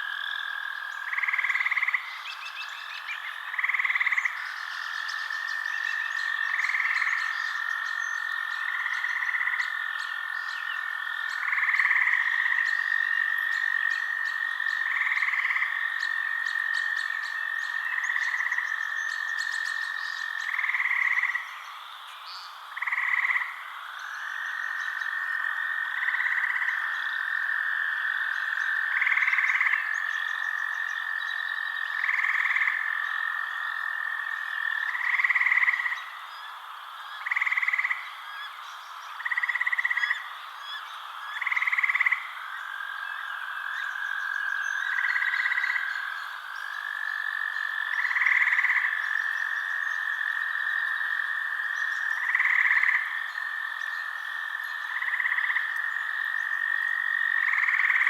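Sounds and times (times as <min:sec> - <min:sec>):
frog trilling: 0:00.0 - 0:21.8, 0:22.7 - 0:36.6, 0:37.2 - 0:58.0.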